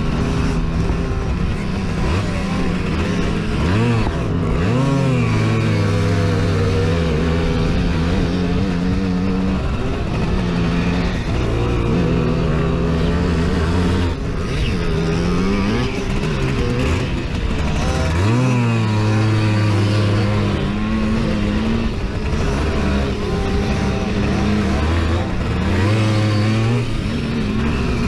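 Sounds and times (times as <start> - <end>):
two-stroke moped engine revving: 0.0 - 28.0.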